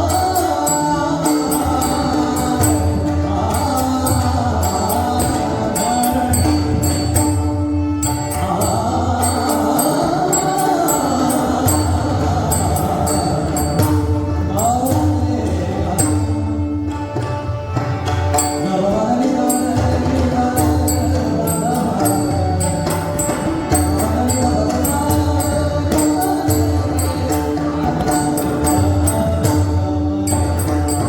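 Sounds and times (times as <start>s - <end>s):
person singing devotional song: 0.0s - 16.9s, 18.4s - 31.0s
hand drums beating: 0.0s - 31.0s.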